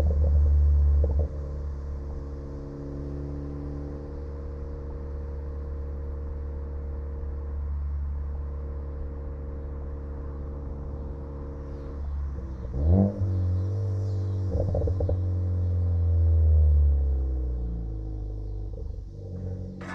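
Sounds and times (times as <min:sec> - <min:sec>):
car exhaust droning and revving: 0:00.0 - 0:19.9.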